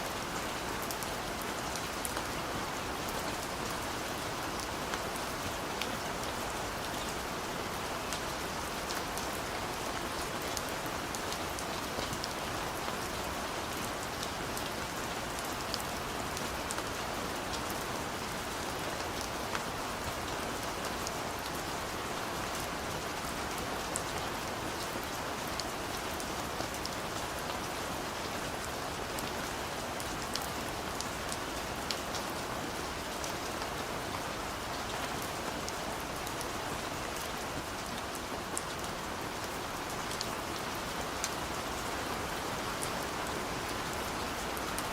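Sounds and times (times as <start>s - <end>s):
steady rain hissing: 0.0s - 44.9s.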